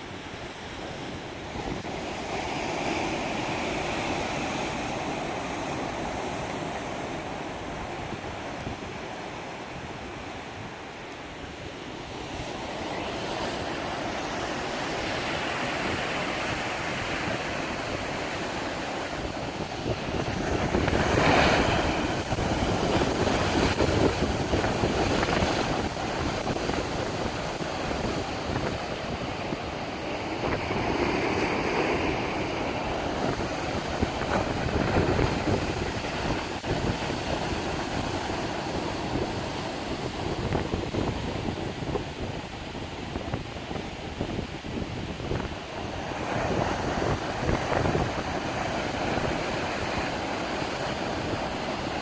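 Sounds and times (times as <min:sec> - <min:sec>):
waves breaking: 0:00.0 - 0:52.0
wind on microphone: 0:00.0 - 0:52.0.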